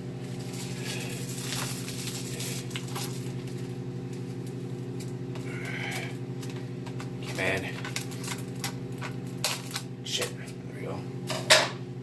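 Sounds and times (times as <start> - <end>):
steady low hum: 0.0 - 12.0
plastic film crinkling: 0.2 - 9.9.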